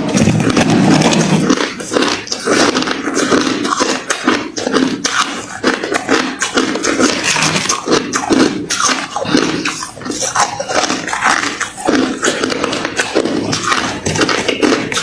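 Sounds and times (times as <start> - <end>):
chewing crunchy ice: 0.0 - 15.0.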